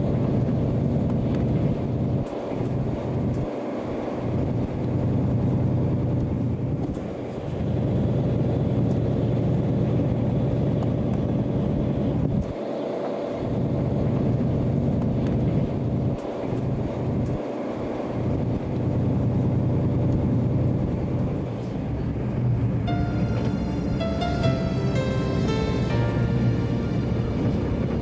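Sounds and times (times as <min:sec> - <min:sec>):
train rumble inside carriage: 0:00.0 - 0:28.0.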